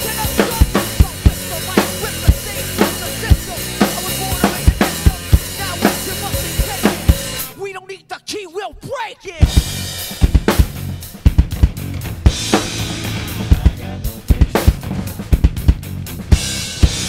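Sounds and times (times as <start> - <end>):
hard rock backing music: 0.0 - 7.6, 9.4 - 17.0
rock drum kit playing: 0.0 - 7.6, 9.3 - 17.0.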